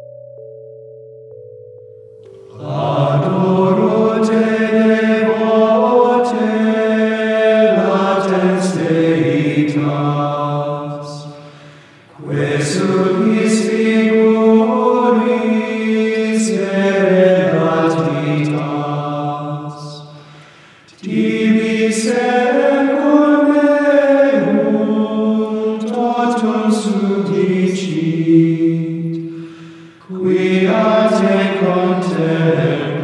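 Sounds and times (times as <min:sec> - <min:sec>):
male choir chanting in unison: 0:02.5 - 0:33.0.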